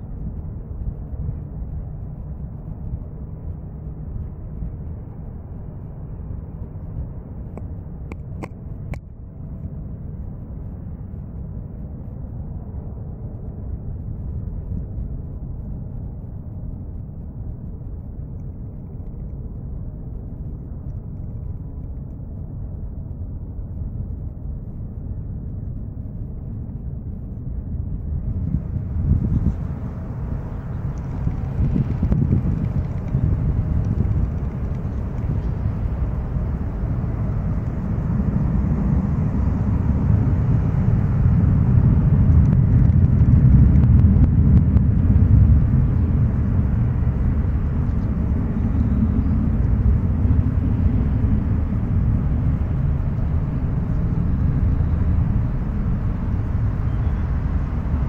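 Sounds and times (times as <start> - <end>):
distant jet rumble: 0.0 - 58.0
wind buffeting microphone: 0.0 - 58.0.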